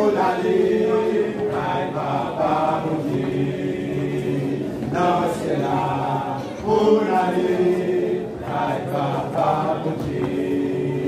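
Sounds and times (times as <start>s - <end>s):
male vocal group singing a hymn: 0.0s - 11.0s.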